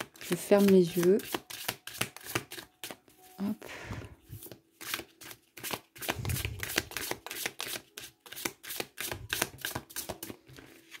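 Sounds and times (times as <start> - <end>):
cards being shuffled: 0.0 - 3.2, 4.4 - 11.0.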